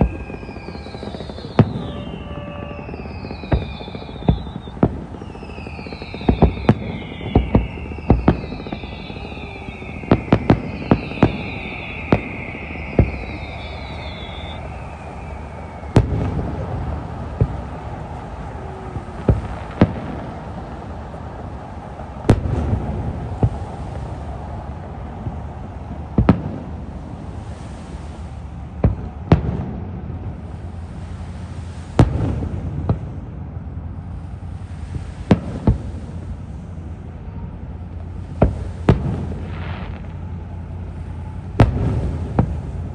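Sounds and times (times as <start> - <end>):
distant fireworks bursting: 0.0 - 42.9.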